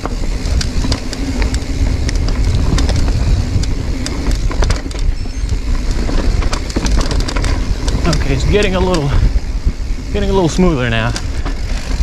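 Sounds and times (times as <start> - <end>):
bike clacking and rattling: 0.0 - 12.0
bike tyres rumbling on rocks: 0.0 - 12.0
wind on microphone: 0.0 - 12.0.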